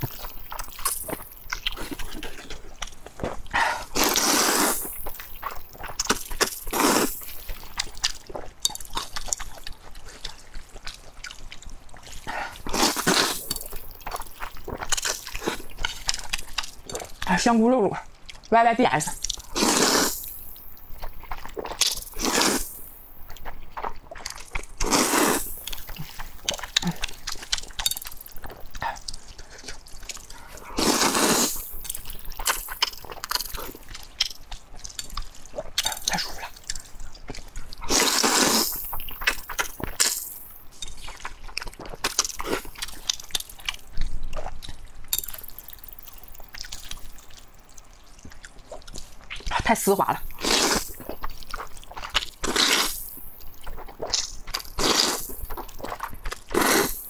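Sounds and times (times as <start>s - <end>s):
loud noodle slurping: 0.0s - 17.3s, 19.1s - 47.4s, 50.2s - 57.0s
wet chewing: 0.0s - 57.0s.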